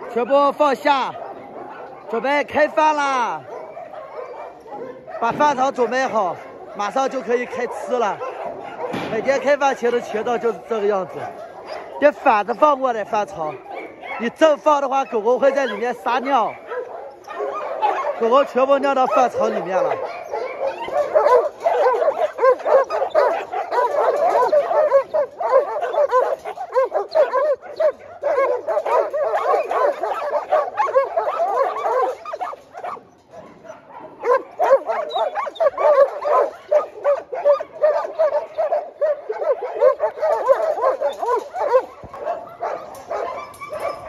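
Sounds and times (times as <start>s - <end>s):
dogs barking yipping and whining: 0.0s - 44.0s.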